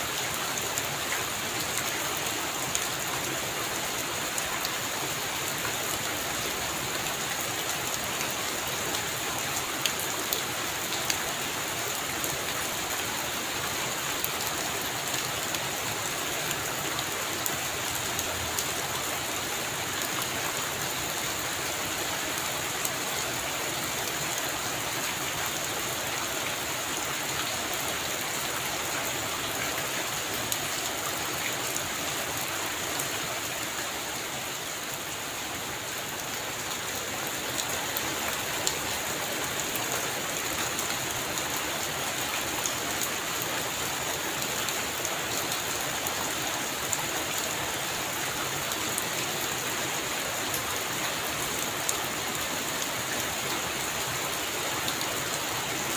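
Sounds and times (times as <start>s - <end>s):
raindrops ticking on surfaces: 0.0s - 55.9s.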